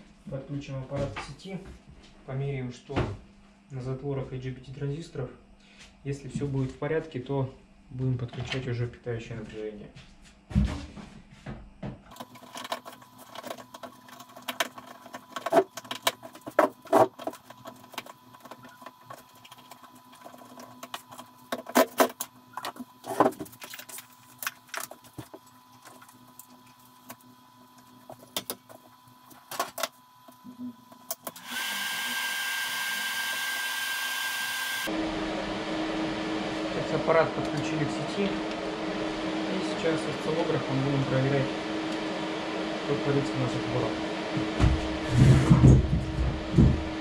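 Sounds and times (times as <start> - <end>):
cooling fan with high whine: 0.0 - 47.0.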